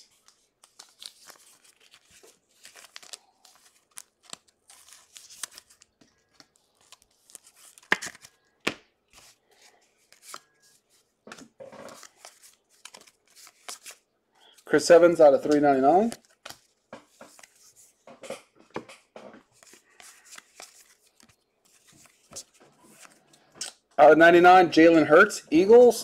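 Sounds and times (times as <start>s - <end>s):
card sleeves rustling and crinkling: 0.0s - 14.7s, 15.4s - 23.4s.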